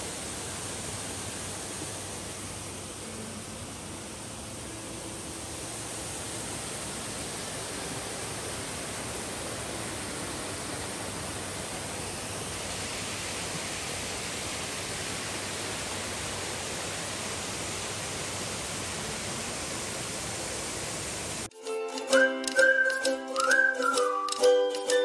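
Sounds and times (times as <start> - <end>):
waterfall rushing: 0.0 - 21.5.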